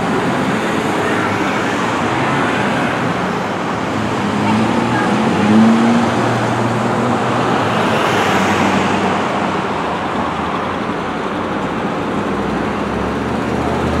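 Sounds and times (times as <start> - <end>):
cars and trucks driving past: 0.0 - 14.0.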